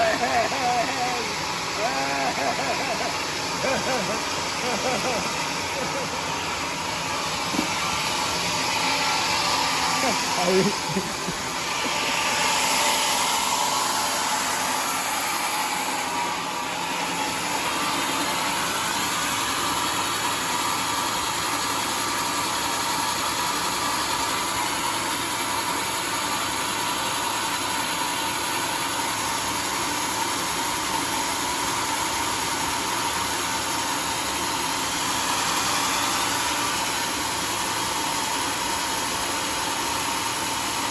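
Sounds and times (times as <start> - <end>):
saw blade whine: 0.0 - 40.9
sawmill running: 0.0 - 40.9.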